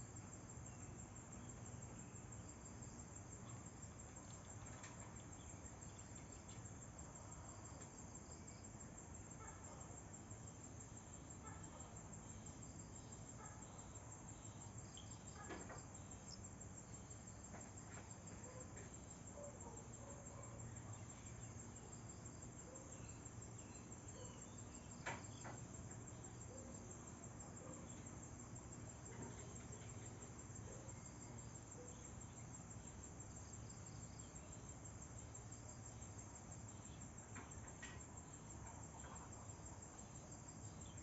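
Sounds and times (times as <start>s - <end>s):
insects chirping: 0.0s - 41.0s.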